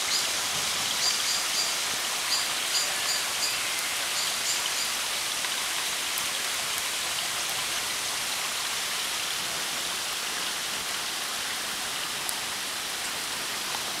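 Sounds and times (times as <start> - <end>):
heavy rain on leaves: 0.0 - 14.0.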